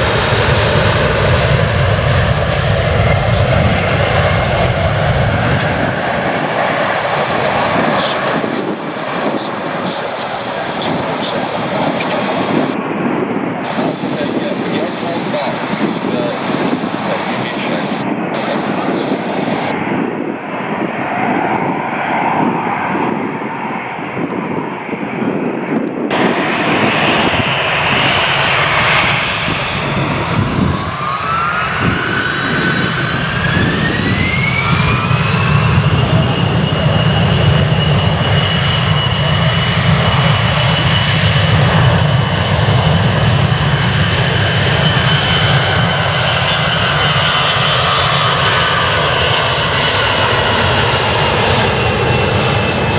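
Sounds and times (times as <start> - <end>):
jet engines spooling up: 0.0 - 12.8, 13.4 - 23.3, 26.1 - 52.9.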